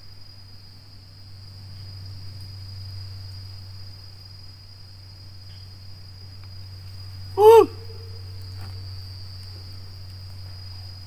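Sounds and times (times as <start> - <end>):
insects trilling: 0.0 - 11.0
steady low hum: 0.0 - 11.0.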